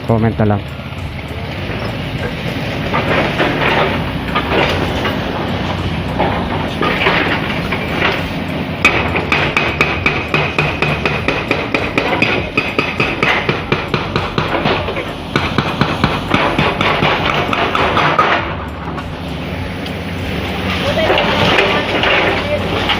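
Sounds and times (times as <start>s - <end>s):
rapid ringing metallic blows: 0.2s - 19.2s
demolition hammering on concrete: 1.7s - 8.2s, 8.8s - 19.1s, 20.8s - 22.9s.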